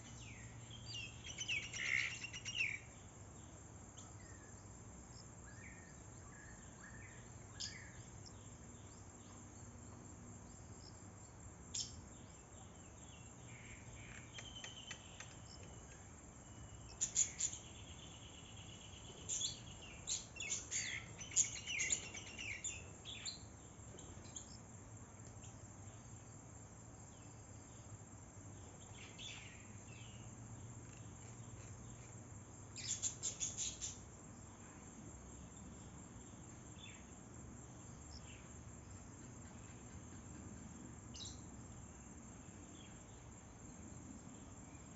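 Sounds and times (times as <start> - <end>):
small birds chirping: 0.0 - 26.4, 27.1 - 34.1, 35.4 - 37.2, 37.8 - 44.9
high insect drone: 0.0 - 44.9.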